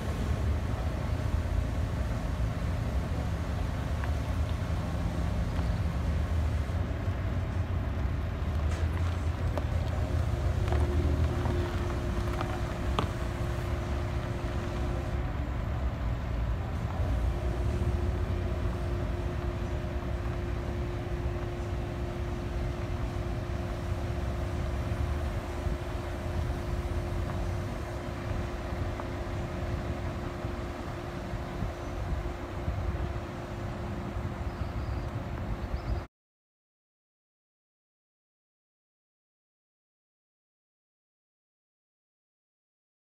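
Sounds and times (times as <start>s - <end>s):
steady hum: 0.0s - 36.1s
vehicle engines rumbling: 0.0s - 36.1s.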